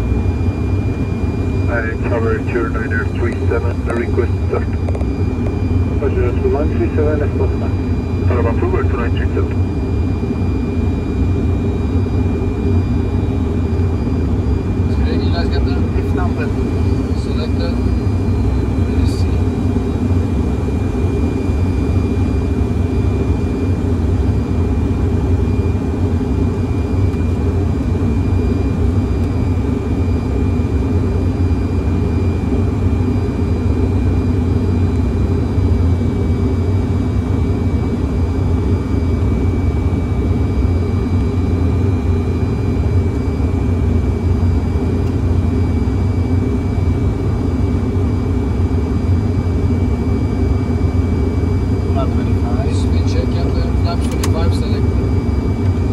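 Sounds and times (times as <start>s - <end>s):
low rumble of airflow and engines: 0.0s - 55.9s.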